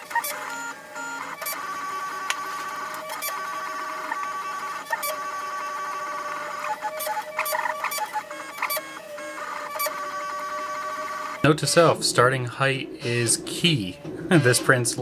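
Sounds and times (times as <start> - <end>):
stepper motors whining: 0.0 - 12.4, 13.0 - 15.0.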